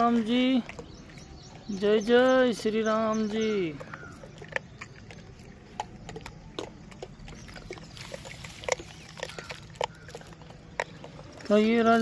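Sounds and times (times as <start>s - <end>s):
monkeys chewing grains: 0.0s - 12.0s.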